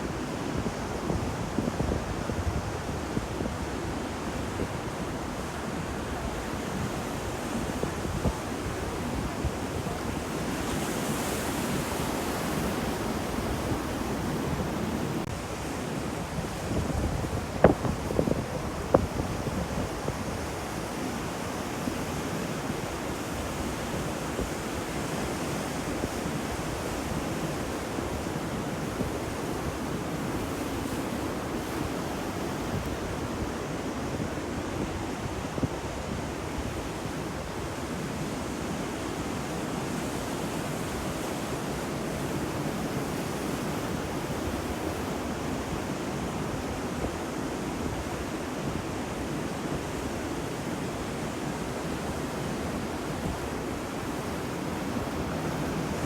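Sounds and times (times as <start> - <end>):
sea surf washing on shore: 0.0 - 56.0.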